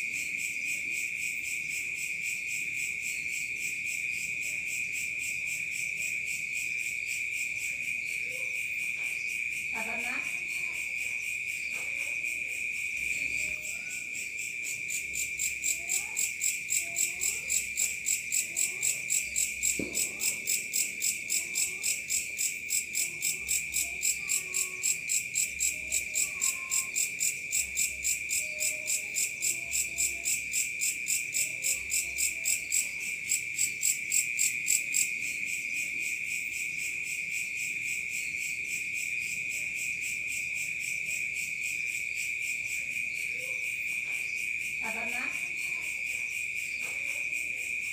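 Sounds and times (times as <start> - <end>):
insects high-pitched trill: 0.0 - 47.9.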